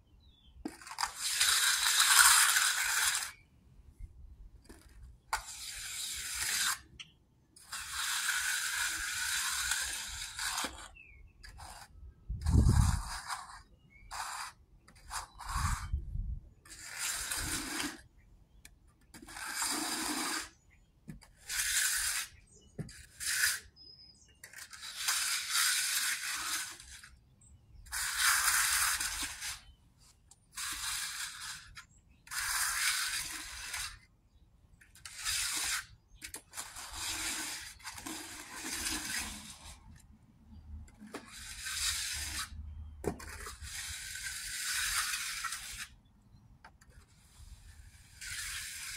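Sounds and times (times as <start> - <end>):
tool scraping wet concrete: 0.7 - 3.4, 4.7 - 16.0, 16.6 - 18.1, 19.0 - 23.8, 24.4 - 27.2, 27.8 - 34.1, 34.8 - 40.0, 40.9 - 46.0, 46.8 - 48.9.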